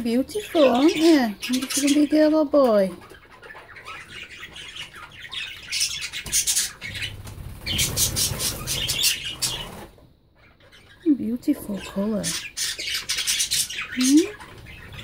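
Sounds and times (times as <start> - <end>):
budgerigars squawking and chattering: 0.1 - 15.0.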